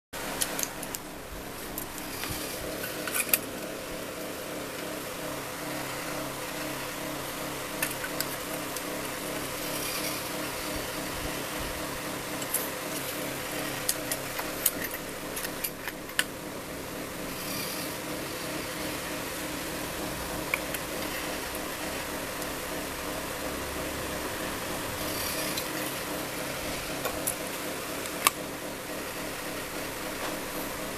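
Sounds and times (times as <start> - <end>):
mechanical hum: 0.2 - 30.9.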